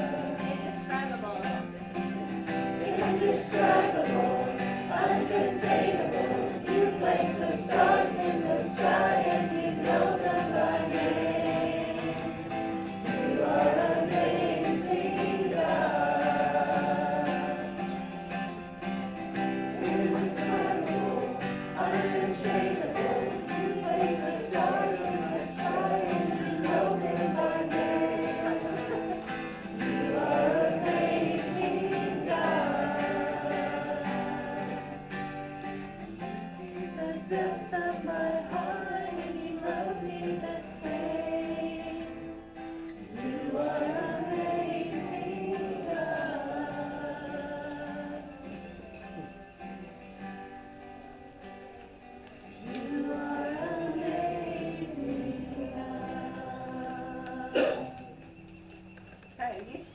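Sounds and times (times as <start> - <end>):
acoustic guitar: 0.0 - 59.9
congregation singing: 0.0 - 59.9.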